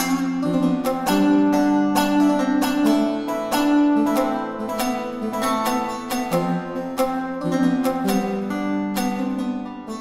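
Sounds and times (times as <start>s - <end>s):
synthesizer plucked-string melody: 0.0s - 10.0s.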